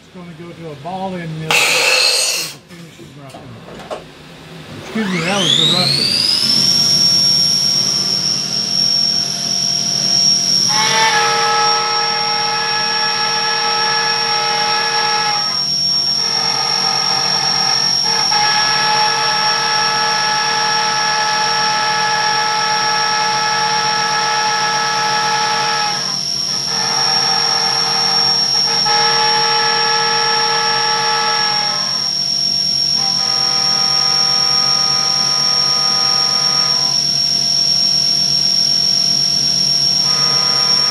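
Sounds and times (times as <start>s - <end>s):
milling machine spindle whine: 1.5s - 2.6s, 4.8s - 40.9s.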